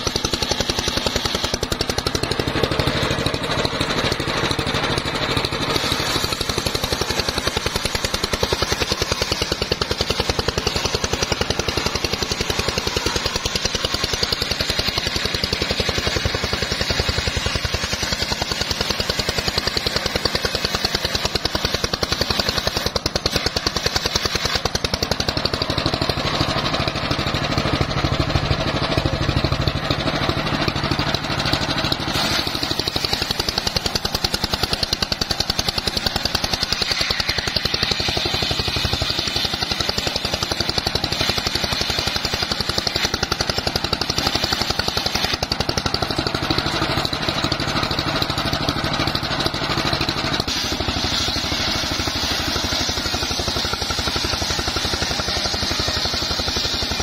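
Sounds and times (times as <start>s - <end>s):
table saw cutting wood: 0.0s - 28.1s, 31.5s - 45.9s, 49.8s - 57.0s
engine running with pulsing beat: 0.0s - 57.0s.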